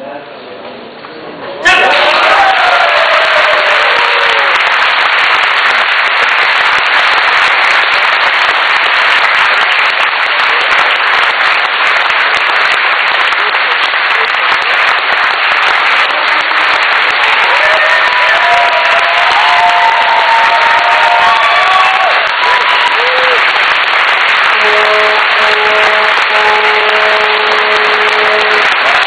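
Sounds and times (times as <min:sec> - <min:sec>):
crowd applauding: 0:01.6 - 0:29.0
crowd cheering: 0:01.6 - 0:29.0.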